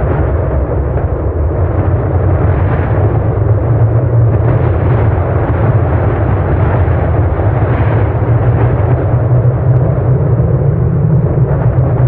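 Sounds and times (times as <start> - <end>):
volcano rumbling: 0.0 - 12.0.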